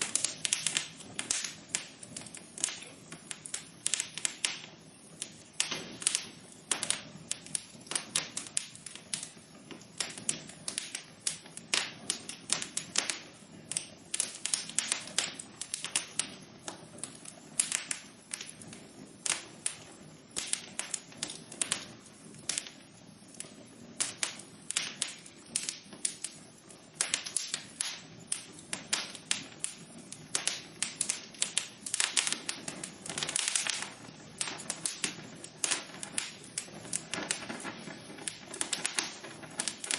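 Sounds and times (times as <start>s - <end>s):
flame rushing: 0.0s - 39.9s
wood fire crackling and popping: 0.0s - 39.9s.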